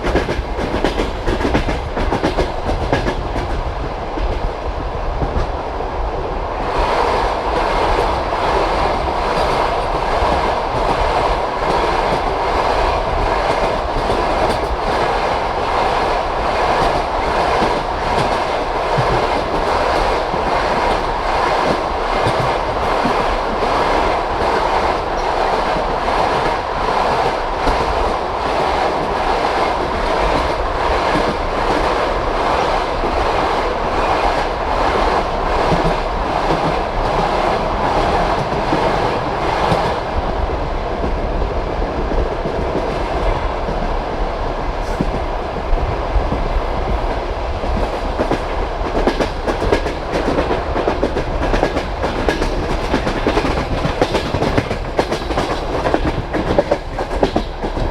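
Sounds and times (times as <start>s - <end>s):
train wheels clickety-clack: 0.0s - 5.6s, 6.6s - 57.9s.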